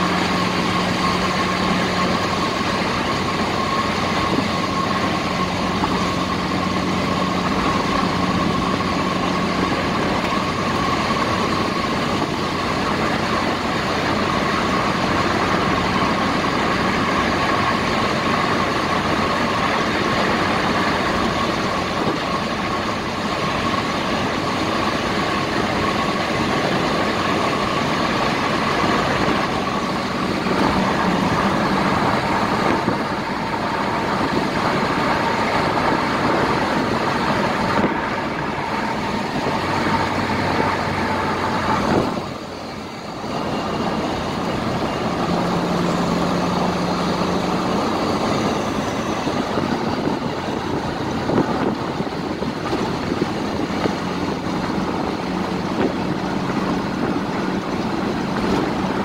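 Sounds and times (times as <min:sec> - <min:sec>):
car engine running: 0:00.0 - 0:59.0
road and tyre noise: 0:00.0 - 0:59.0.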